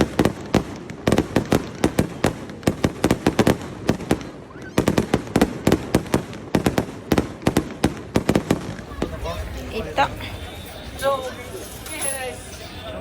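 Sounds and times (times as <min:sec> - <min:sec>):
fireworks cracks and bangs: 0:00.0 - 0:13.0.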